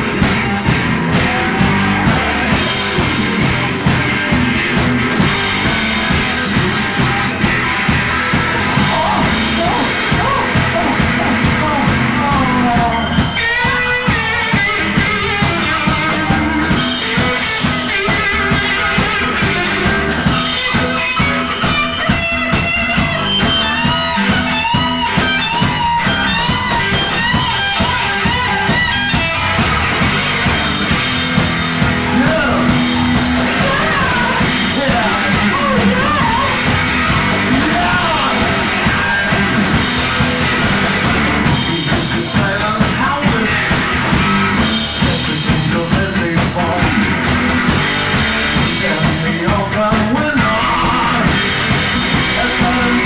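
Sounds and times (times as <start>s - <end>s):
bending lead guitar melody: 0.0s - 53.0s
live rock band playing: 0.0s - 53.0s.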